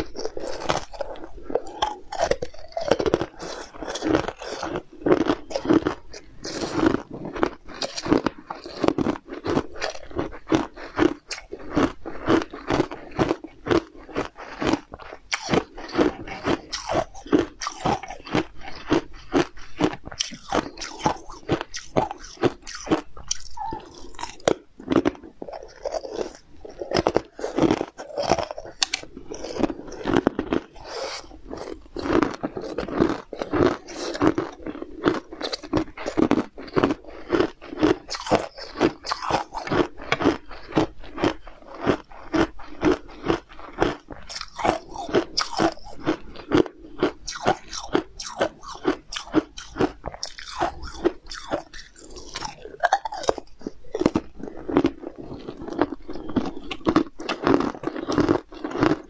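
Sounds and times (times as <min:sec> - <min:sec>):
crunching and chewing sweets: 0:00.0 - 0:59.0.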